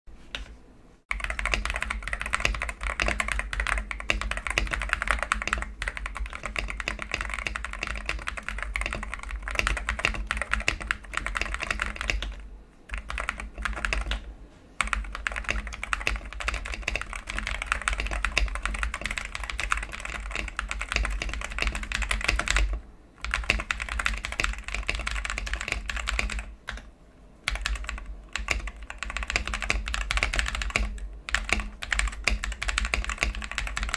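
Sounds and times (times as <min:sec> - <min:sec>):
typing on mechanical keyboard: 0:01.1 - 0:26.9, 0:27.5 - 0:33.9.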